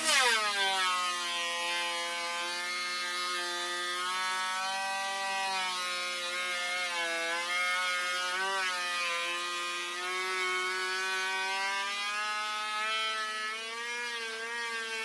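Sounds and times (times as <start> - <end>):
knives cutting wood: 0.0 - 15.0.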